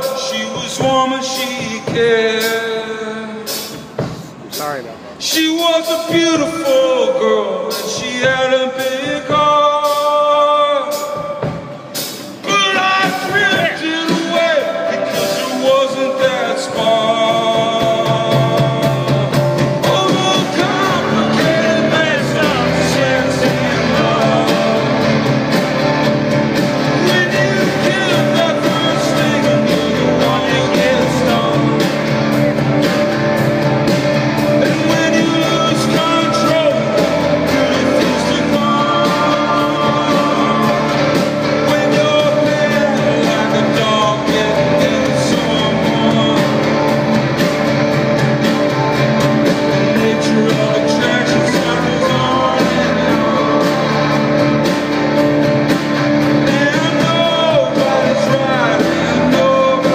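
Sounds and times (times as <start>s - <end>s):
man singing: 0.0s - 33.3s, 34.4s - 48.0s, 48.6s - 59.9s.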